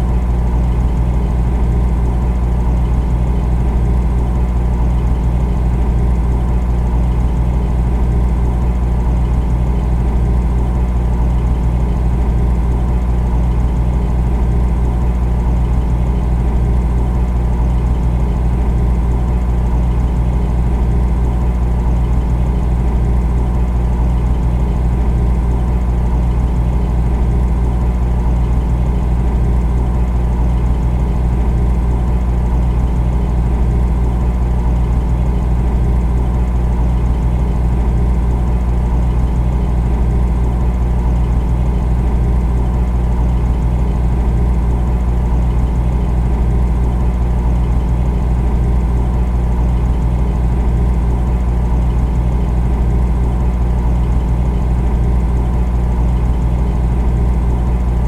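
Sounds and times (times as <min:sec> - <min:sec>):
refrigerator compressor humming: 0:00.0 - 0:58.0.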